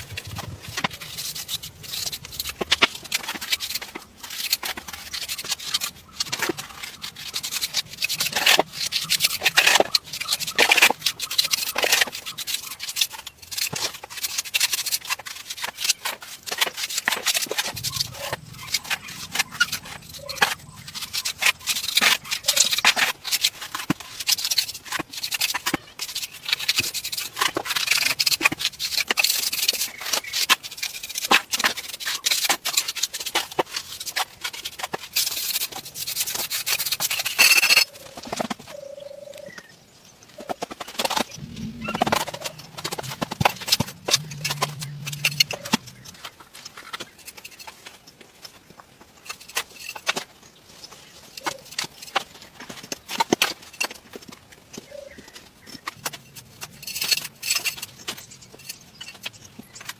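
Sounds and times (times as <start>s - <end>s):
sharp clicks and cracks: 0.0s - 38.7s, 40.3s - 59.9s
rubbing and scraping of materials: 0.0s - 59.9s.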